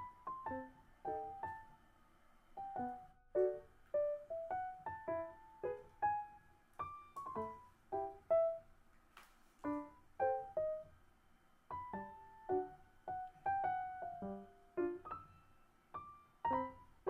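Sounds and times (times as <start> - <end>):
light piano melody: 0.0 - 17.0.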